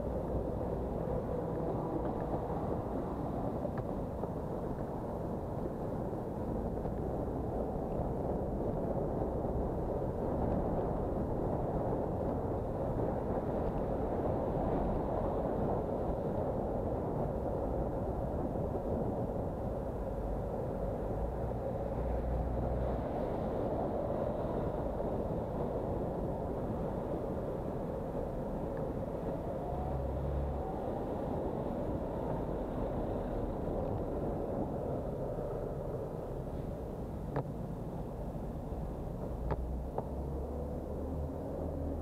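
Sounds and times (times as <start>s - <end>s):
buses and cars driving: 0.0s - 42.0s
wind and road noise: 0.0s - 42.0s.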